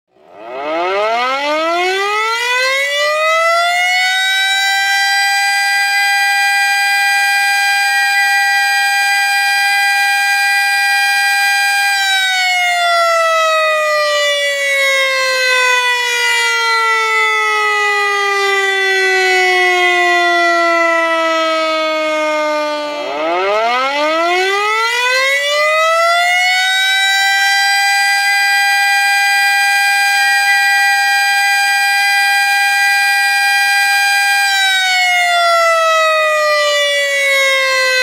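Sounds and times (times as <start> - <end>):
warning siren wailing: 0.1 - 38.0.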